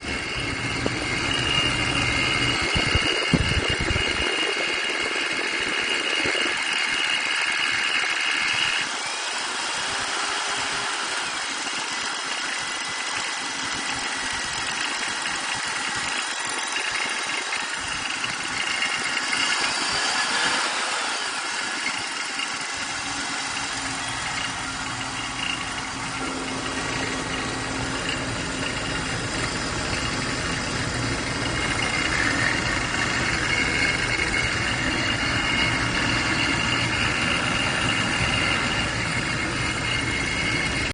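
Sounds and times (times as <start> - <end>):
car engine whine: 0.0 - 40.9.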